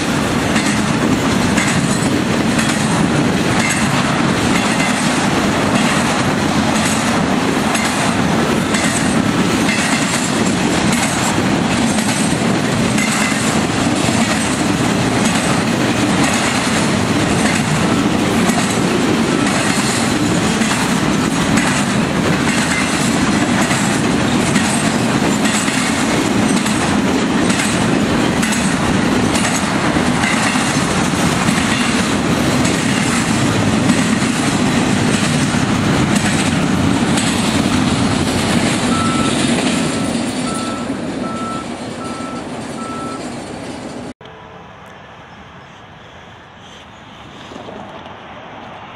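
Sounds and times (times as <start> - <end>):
wheels clicking over rail joints: 0.0 - 44.1
freight cars rumbling: 0.0 - 48.9.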